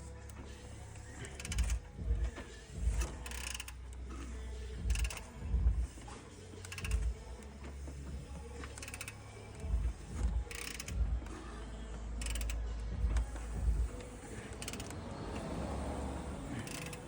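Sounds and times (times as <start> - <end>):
hand ratchet clicking: 0.2 - 11.5, 12.1 - 17.0.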